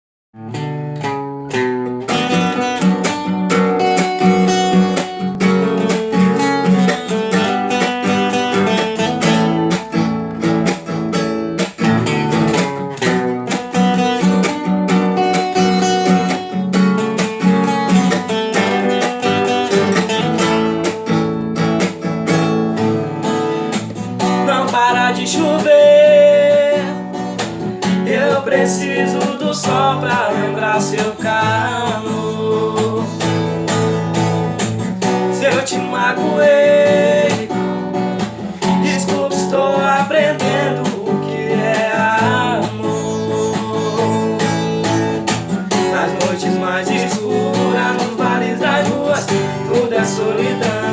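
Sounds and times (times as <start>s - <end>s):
acoustic guitar strummed and picked: 0.4s - 50.9s.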